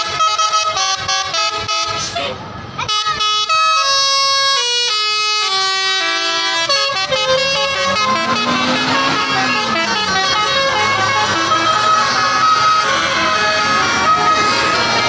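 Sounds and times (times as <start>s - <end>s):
bus air horn playing melody: 0.0s - 15.0s.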